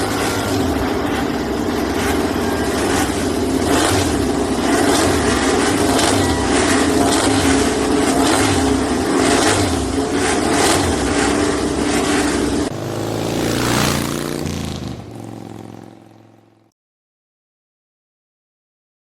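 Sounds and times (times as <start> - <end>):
engine with falling pitch: 0.0 - 16.7
loud vehicle noise: 0.0 - 16.7.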